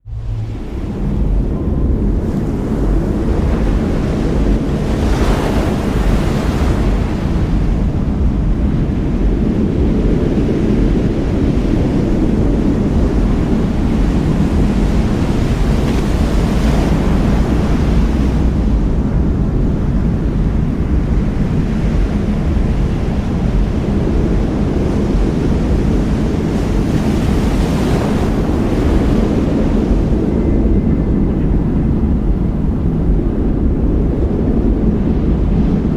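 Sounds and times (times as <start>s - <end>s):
lake waves rushing: 0.0s - 30.8s
storm wind: 0.0s - 35.9s.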